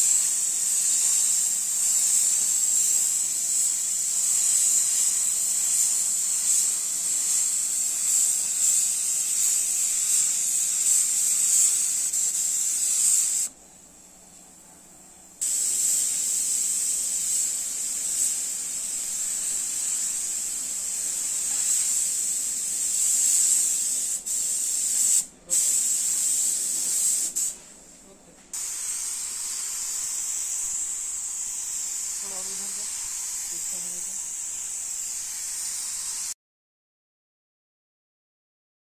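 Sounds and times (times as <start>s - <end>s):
spray gun air hiss: 0.0s - 13.5s, 15.4s - 36.4s.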